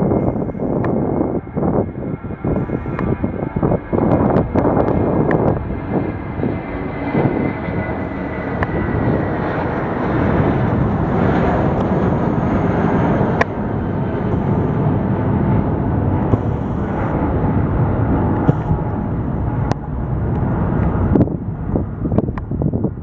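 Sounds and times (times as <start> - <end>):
airliner engines running: 0.0 - 23.0
faint engine whine: 0.0 - 23.0.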